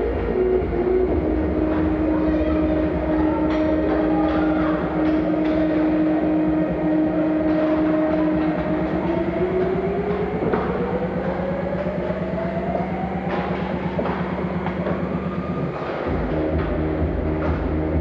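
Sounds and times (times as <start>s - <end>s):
mechanical drone with whine: 0.0s - 18.0s.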